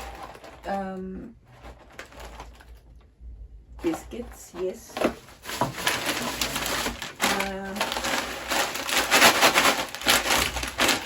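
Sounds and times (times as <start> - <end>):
plastic packaging crinkling: 0.0 - 3.0, 3.8 - 11.0.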